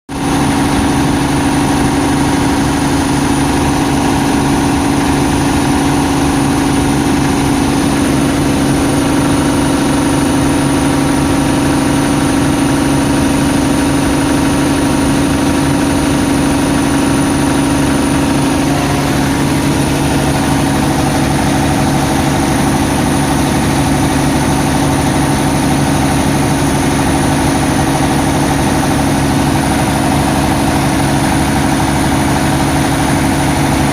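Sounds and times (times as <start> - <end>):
generator engine running: 0.1 - 33.9.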